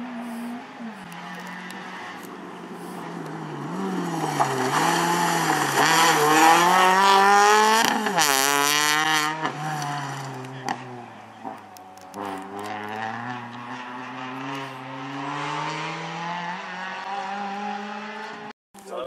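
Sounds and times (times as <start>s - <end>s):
rally car engine revving past: 0.0s - 18.5s.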